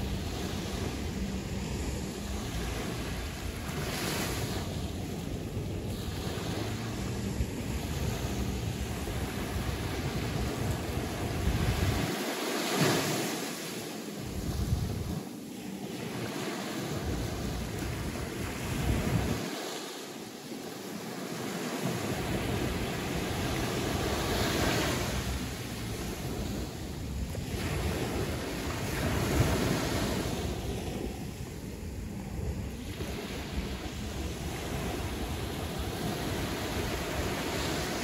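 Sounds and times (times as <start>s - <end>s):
sea waves washing in: 0.0s - 38.0s
wind rumbling on microphone: 0.0s - 38.0s.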